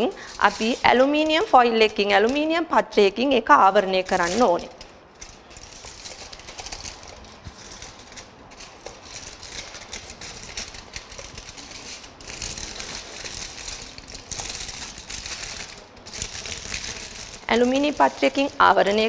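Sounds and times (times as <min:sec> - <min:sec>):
aluminium foil crinkling: 0:00.0 - 0:02.7, 0:03.6 - 0:19.0.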